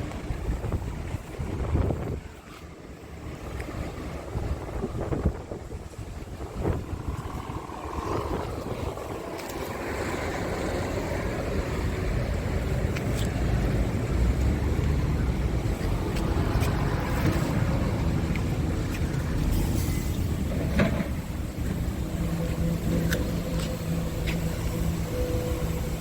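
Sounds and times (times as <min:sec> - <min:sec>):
truck diesel engine rumbling: 0:00.0 - 0:26.0.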